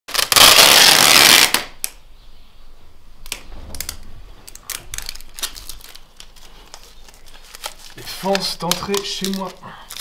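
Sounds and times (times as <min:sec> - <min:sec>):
packing tape ripped off roll: 0:00.1 - 0:02.0, 0:03.3 - 0:10.0
tape crackling and clicking: 0:00.1 - 0:02.0, 0:03.2 - 0:10.0.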